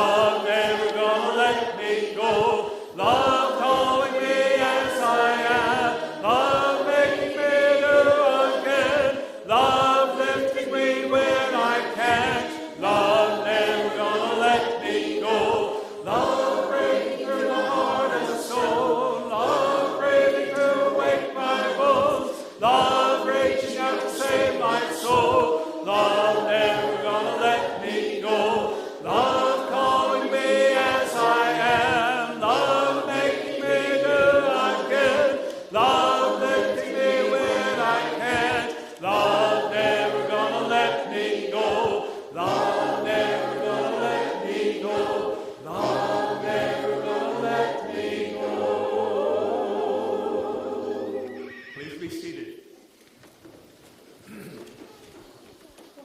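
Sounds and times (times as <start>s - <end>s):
choir singing: 0.0s - 51.6s.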